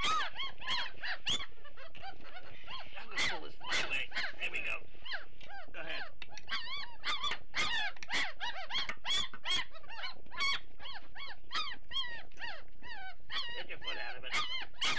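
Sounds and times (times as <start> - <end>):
puppies whining and squealing: 0.0 - 14.9.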